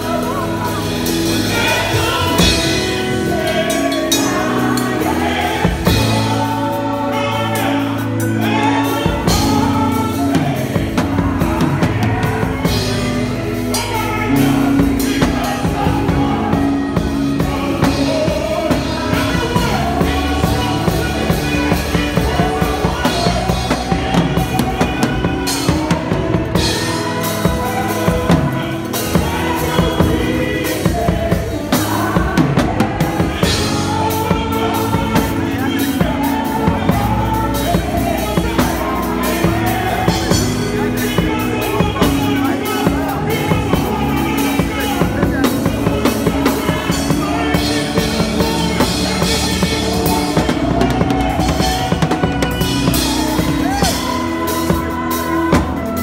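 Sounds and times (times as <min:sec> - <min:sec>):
drum kit playing: 0:00.0 - 0:56.0
gospel band playing: 0:00.0 - 0:56.0
person singing: 0:00.0 - 0:56.0.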